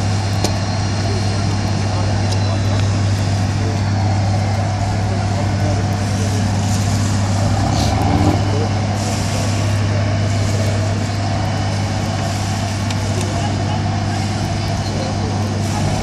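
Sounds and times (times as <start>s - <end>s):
fire truck engine humming: 0.0s - 16.0s
rushing noise: 0.0s - 16.0s.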